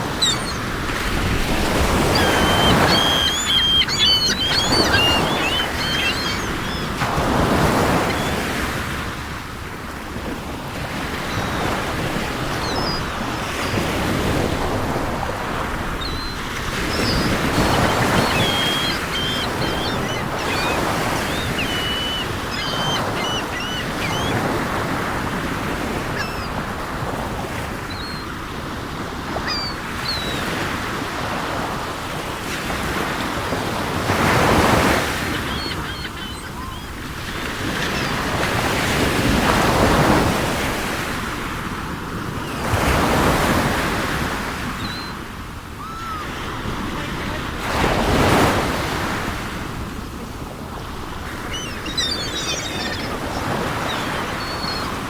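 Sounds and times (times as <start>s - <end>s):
birds chirping: 0.0s - 9.4s, 10.9s - 31.8s, 32.6s - 40.6s, 44.6s - 55.0s
waves washing onto shore: 0.0s - 55.0s
wind: 0.0s - 55.0s.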